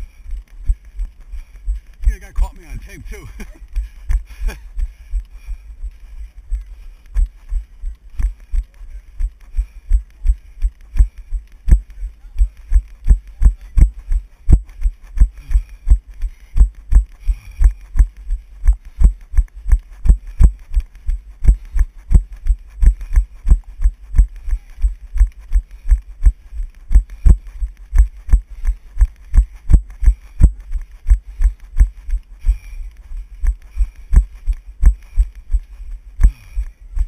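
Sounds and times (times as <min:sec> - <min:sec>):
running footsteps on dirt: 0:00.0 - 0:37.0.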